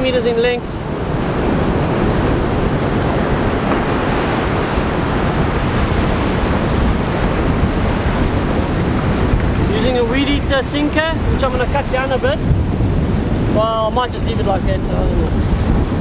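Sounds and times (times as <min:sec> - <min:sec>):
surf on rocky shore: 0:00.0 - 0:16.0
wind buffeting microphone: 0:00.0 - 0:16.0.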